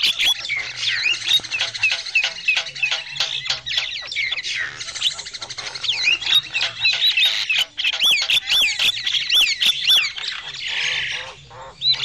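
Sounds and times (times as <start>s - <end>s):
bird whistled notes: 0.0s - 10.9s
birds chattering and squawking: 0.0s - 12.0s.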